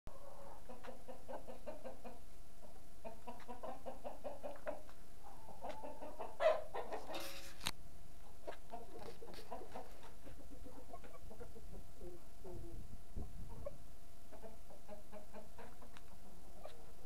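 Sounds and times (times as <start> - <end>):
chickens clucking: 0.1 - 7.6, 8.2 - 17.0.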